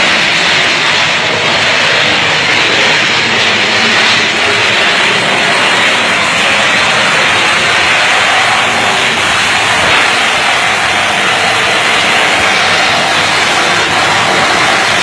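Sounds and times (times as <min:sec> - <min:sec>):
electrical arcing hissing roar: 0:00.0 - 0:15.0.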